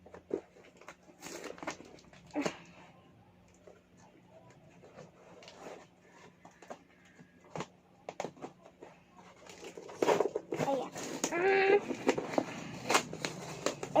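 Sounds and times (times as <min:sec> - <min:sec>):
packaging rustling and scraping: 0:00.0 - 0:02.6, 0:03.6 - 0:14.0.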